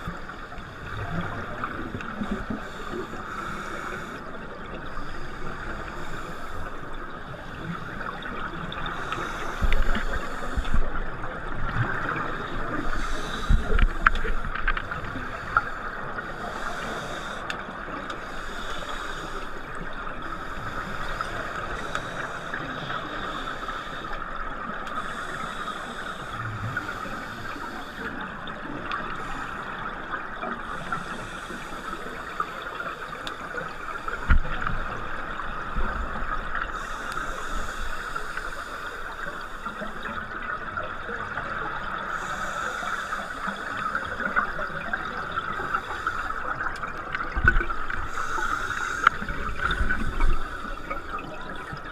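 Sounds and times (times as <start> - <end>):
exhaled air bubbling underwater: 0.0 - 51.9
steady hiss: 0.0 - 51.9.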